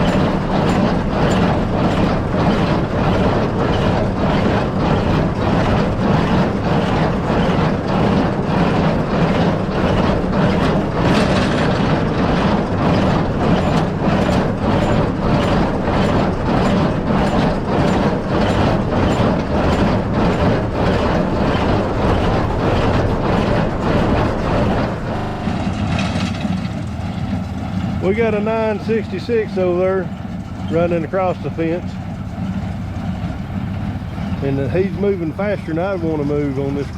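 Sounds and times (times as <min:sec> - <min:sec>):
tractor engine drone: 0:00.0 - 0:36.9.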